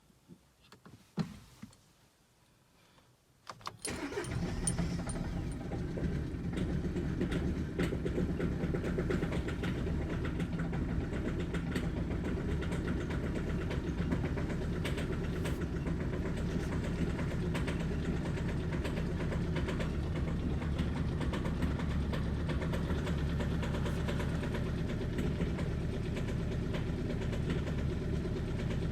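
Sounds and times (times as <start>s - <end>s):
diesel engine starting: 3.7s - 28.9s
engine idling unevenly with misfires: 3.8s - 28.9s.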